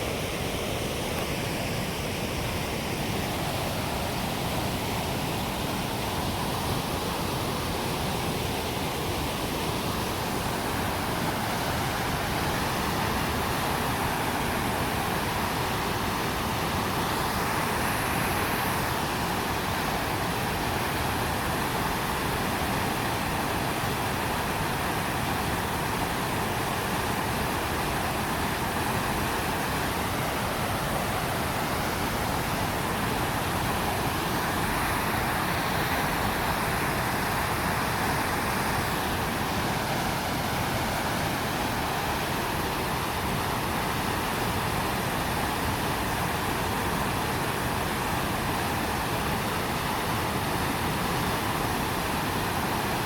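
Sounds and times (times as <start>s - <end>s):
river rushing: 0.0s - 53.0s.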